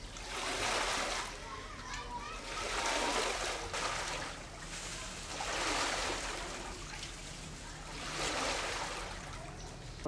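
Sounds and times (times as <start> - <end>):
floodwater splashing and sloshing: 0.0 - 10.0.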